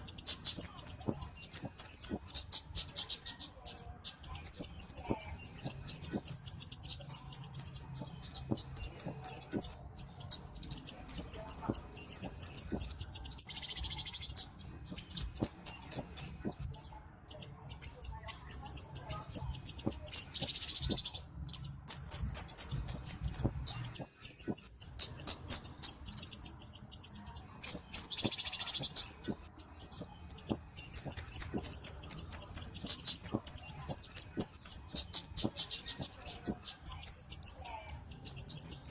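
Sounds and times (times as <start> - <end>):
bird high-pitched trills: 0.0 - 38.9.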